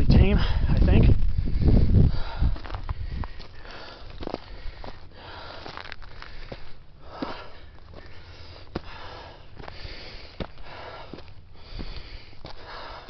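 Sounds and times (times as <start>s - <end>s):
footsteps on dirt: 0.2s - 13.0s
hiker breathing hard: 0.2s - 13.0s.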